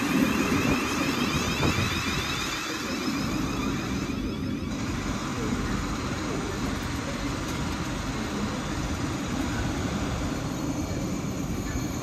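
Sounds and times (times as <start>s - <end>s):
electric train low rumble: 0.0s - 12.0s.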